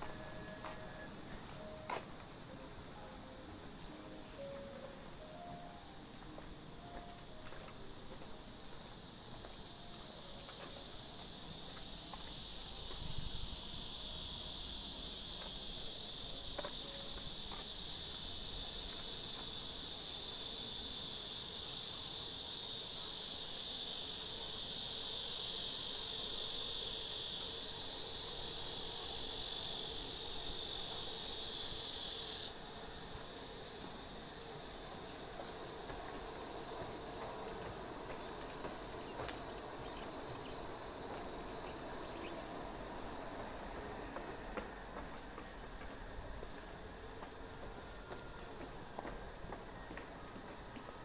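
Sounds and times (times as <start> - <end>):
cicadas buzzing: 0.0 - 51.0.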